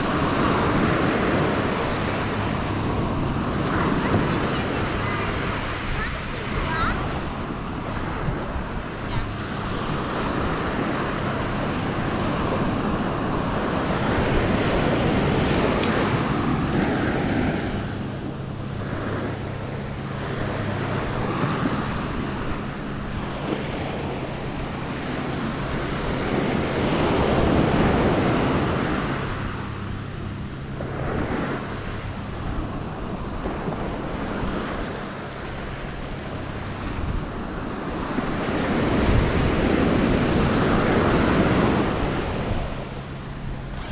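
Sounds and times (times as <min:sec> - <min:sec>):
surf washing up sandy shore: 0:00.0 - 0:43.9
wind buffeting microphone: 0:00.0 - 0:43.9.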